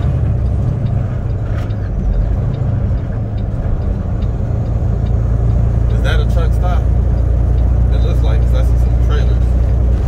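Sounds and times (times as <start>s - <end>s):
faint light ticking: 0.0s - 9.8s
truck diesel engine and road noise: 0.0s - 10.0s.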